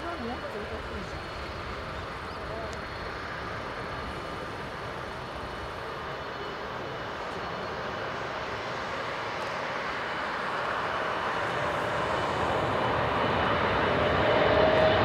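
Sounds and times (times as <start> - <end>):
jet aircraft noise with whine: 0.0 - 15.0.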